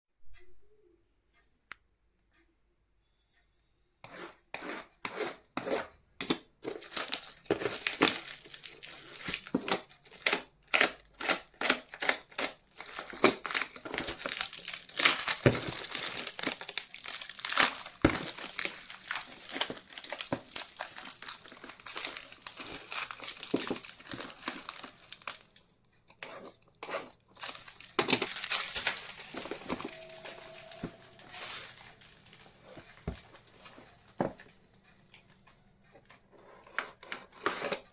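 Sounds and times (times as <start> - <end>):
packaging rustling and crinkling: 6.6 - 37.9.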